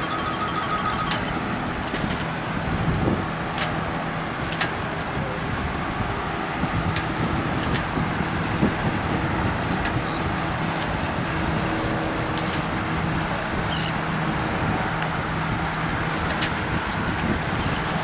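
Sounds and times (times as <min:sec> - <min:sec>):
boat engine droning: 0:00.0 - 0:18.0
steady rushing noise: 0:00.0 - 0:18.0.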